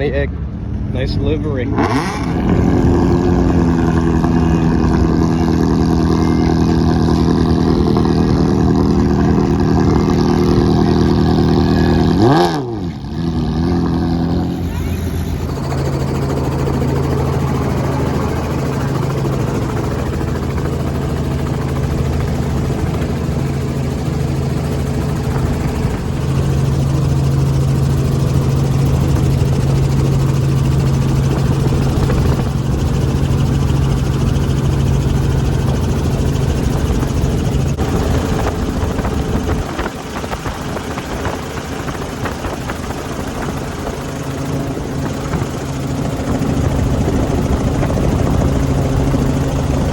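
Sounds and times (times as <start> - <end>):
helicopter droning: 0.0 - 49.9.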